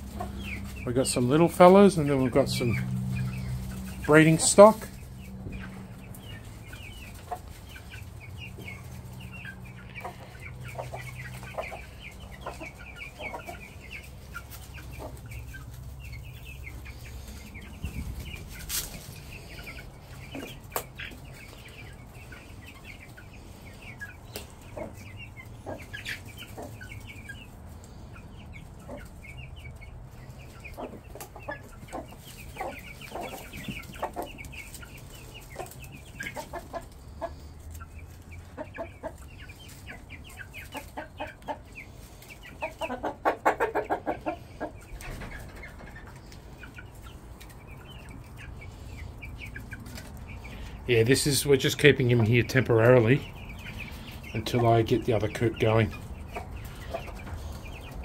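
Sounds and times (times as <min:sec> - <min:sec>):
chickens clucking and cheeping: 0:00.0 - 0:58.0.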